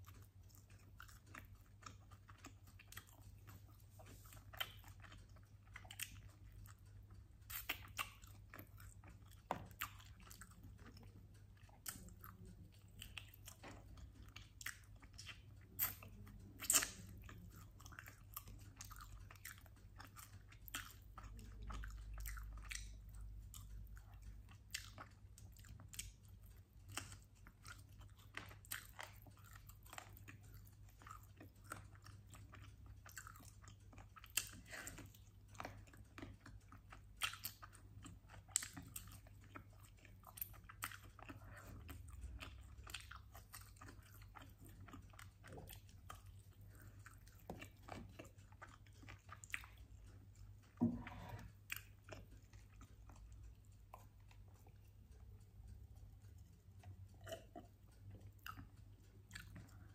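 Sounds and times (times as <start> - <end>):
chewing and biting chicken wings: 0.0 - 59.9.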